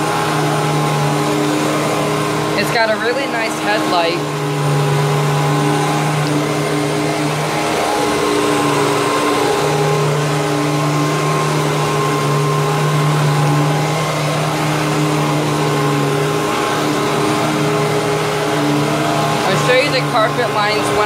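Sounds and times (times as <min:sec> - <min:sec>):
vacuum cleaner on carpet: 0:00.0 - 0:21.0.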